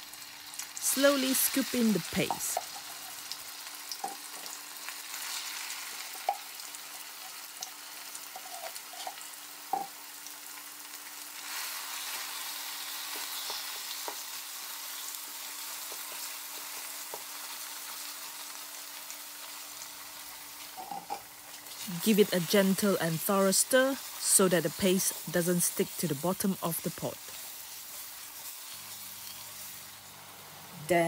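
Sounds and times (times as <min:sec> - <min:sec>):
paste sizzling in hot oil: 0:00.0 - 0:31.0.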